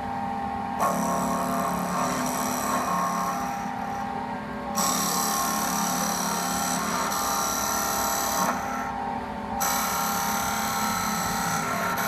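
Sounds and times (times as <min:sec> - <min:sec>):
drill bit boring into wood: 0:00.8 - 0:04.1, 0:04.8 - 0:08.9, 0:09.6 - 0:12.0
lathe spindle whining: 0:00.8 - 0:12.0.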